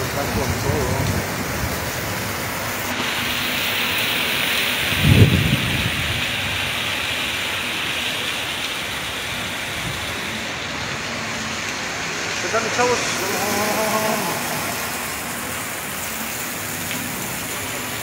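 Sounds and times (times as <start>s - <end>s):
heavy rain on pavement: 0.0s - 18.0s.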